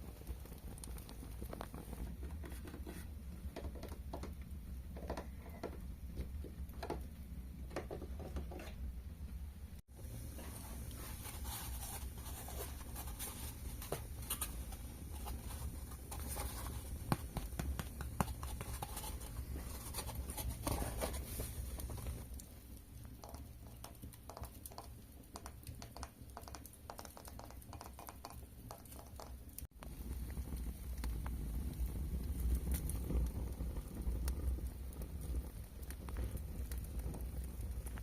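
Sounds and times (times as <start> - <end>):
small clicks and crackles: 0.0 - 8.8, 10.4 - 38.0.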